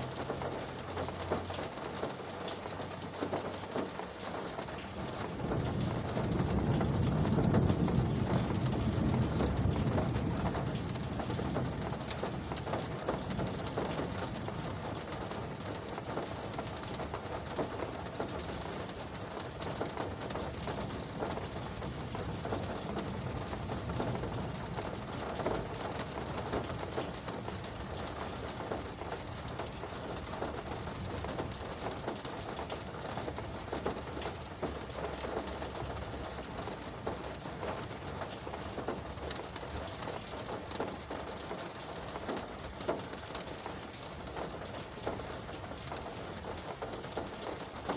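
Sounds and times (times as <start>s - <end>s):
rain on car roof: 0.0s - 47.9s.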